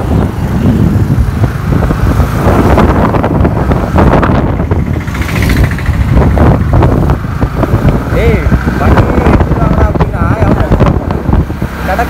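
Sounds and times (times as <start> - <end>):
motorcycle engine running: 0.0 - 12.0
wind rumbling on microphone: 0.0 - 12.0.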